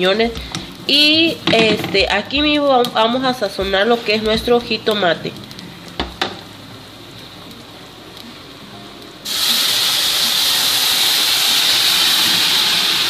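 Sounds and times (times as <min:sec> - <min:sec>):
puree sizzling in hot pan: 0:00.0 - 0:13.0.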